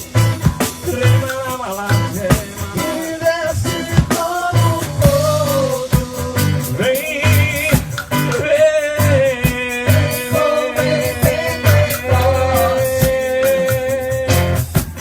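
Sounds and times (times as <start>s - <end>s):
bass line: 0.0s - 15.0s
drum kit: 0.0s - 15.0s.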